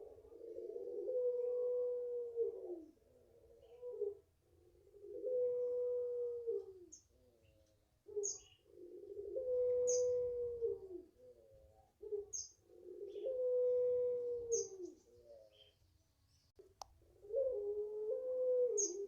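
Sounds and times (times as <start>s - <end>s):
dove cooing: 0.0s - 15.8s, 17.0s - 19.0s.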